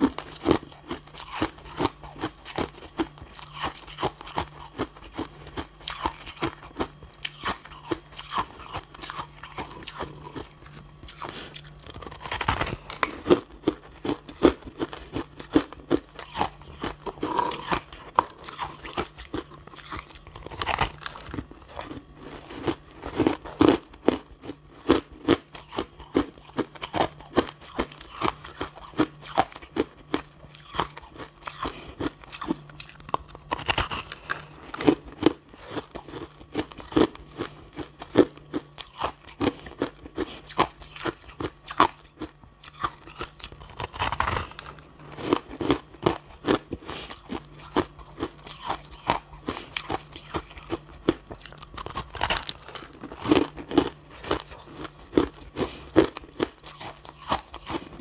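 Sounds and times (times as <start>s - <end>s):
crushed ice being chewed: 0.0s - 58.0s.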